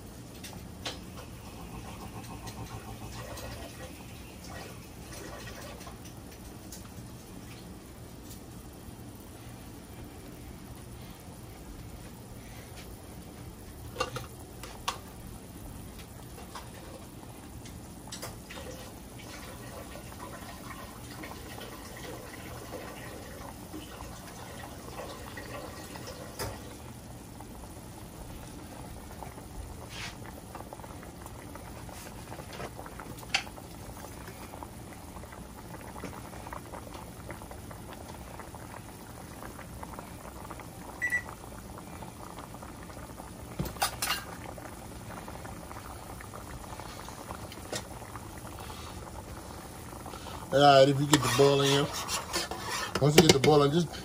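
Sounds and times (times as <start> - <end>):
sauce bubbling in a saucepan: 0.0 - 54.0.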